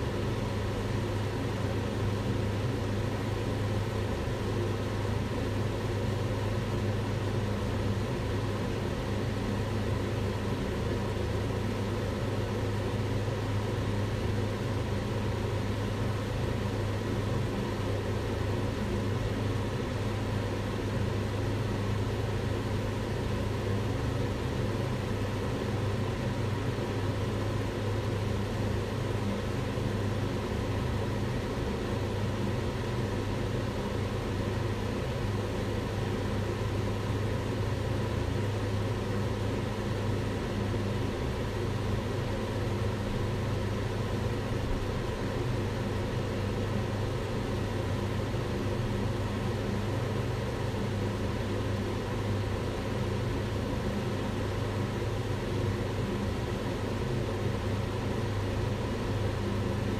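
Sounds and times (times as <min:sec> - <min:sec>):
extractor fan running: 0:00.0 - 0:59.9.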